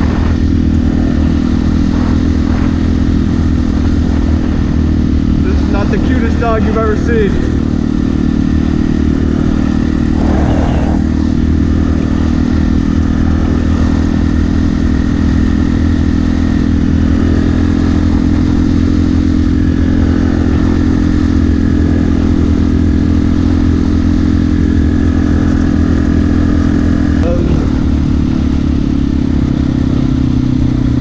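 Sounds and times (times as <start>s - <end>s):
dirt bike engine running steadily: 0.0s - 31.0s.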